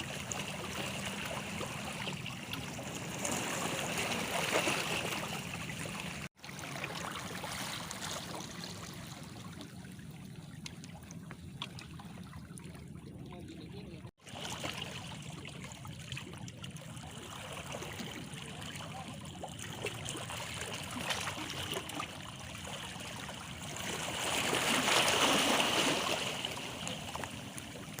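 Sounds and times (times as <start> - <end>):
small waves lapping against stones: 0.0 - 28.0.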